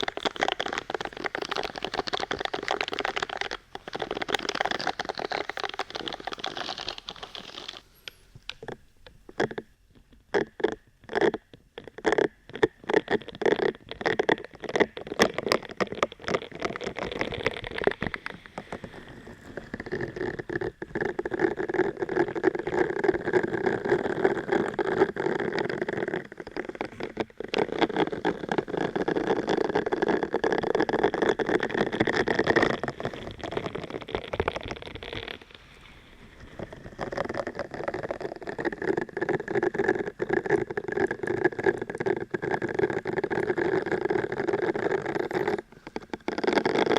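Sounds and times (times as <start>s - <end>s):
scratching on microphone: 0.0s - 46.9s.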